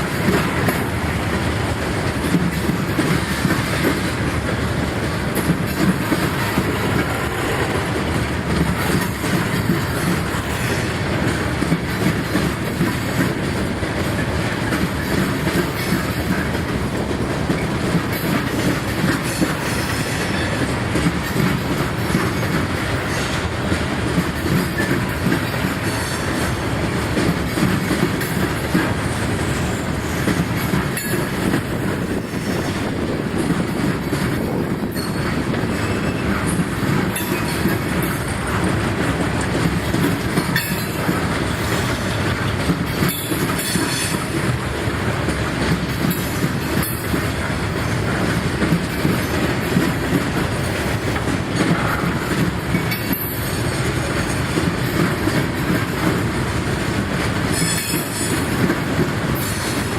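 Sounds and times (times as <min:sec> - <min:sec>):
train wheels rumbling on rail: 0:00.0 - 0:59.9
wheels clicking over rail joints: 0:00.0 - 0:59.9.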